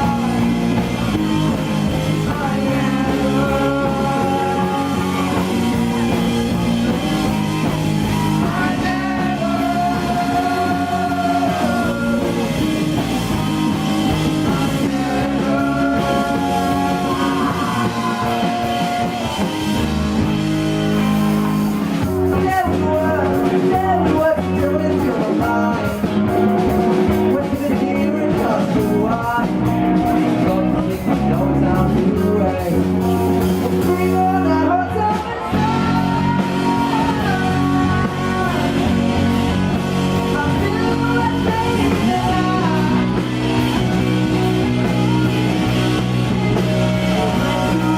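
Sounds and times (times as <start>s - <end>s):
person singing: 0.0s - 20.3s, 22.0s - 47.9s
drum kit: 0.0s - 47.9s
electric guitar: 0.0s - 47.9s.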